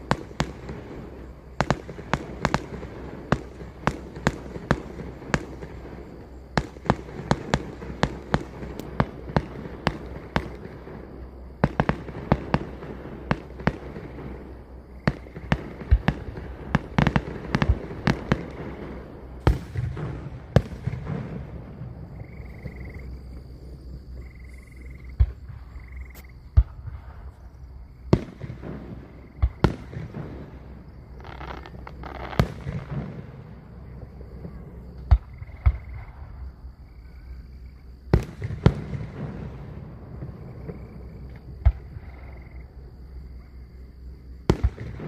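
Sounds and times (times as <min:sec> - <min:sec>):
fireworks bursting with bangs: 0:00.0 - 0:23.2, 0:25.2 - 0:36.6, 0:38.1 - 0:42.3, 0:44.4 - 0:45.0.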